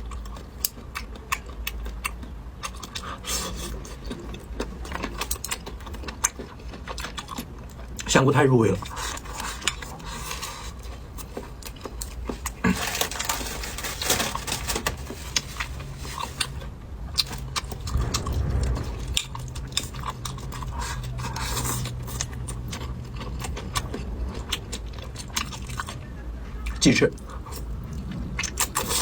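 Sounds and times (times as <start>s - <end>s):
chewing and mouth sounds: 0.0s - 13.2s, 15.2s - 29.0s.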